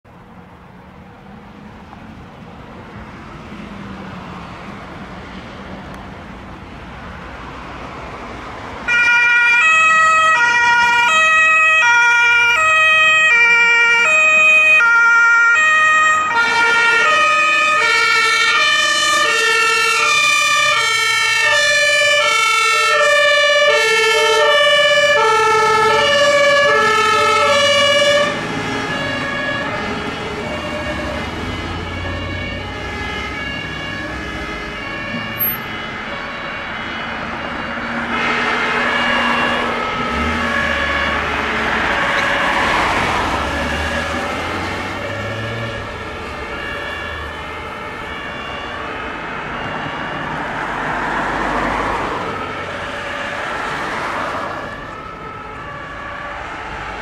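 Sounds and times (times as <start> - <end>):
vehicle noise: 0.0 - 57.0
two-tone siren: 8.9 - 57.0.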